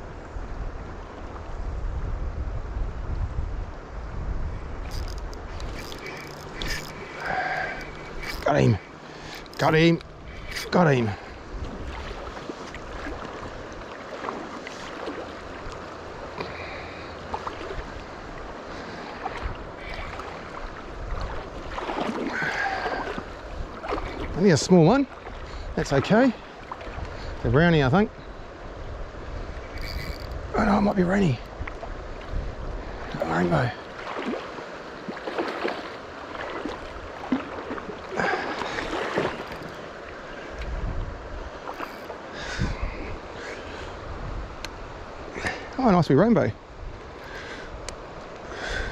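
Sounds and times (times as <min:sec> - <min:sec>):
wind rumbling on microphone: 0:00.0 - 0:48.9
river water rushing: 0:04.6 - 0:48.9.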